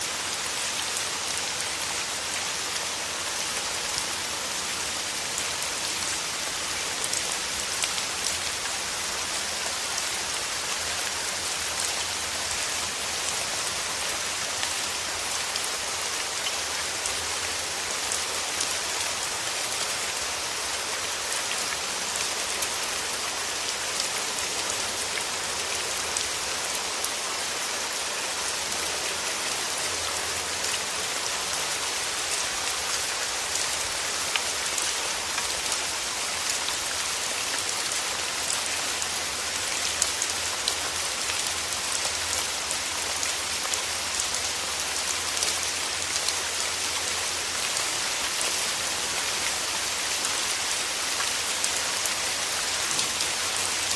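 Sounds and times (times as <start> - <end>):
rain hiss: 0.0 - 53.9.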